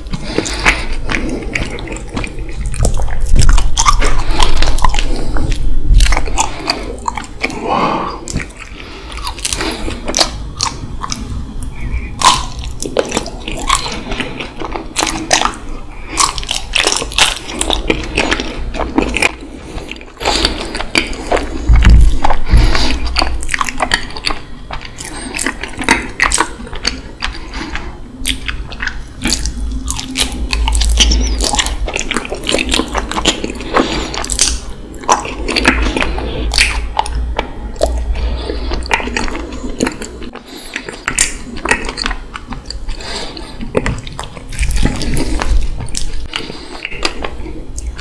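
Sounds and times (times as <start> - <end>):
chewing honeycomb: 0.0 - 48.0.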